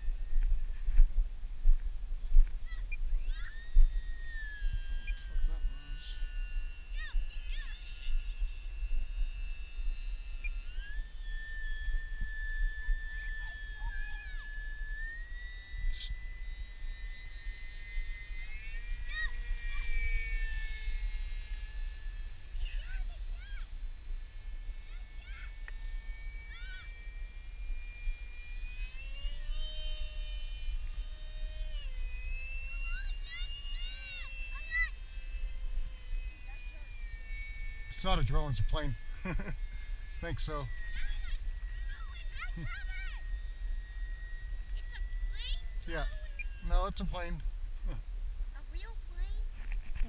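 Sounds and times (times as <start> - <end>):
electric model plane motor whine: 0.0 - 50.0
wind rumbling on microphone: 0.0 - 50.0.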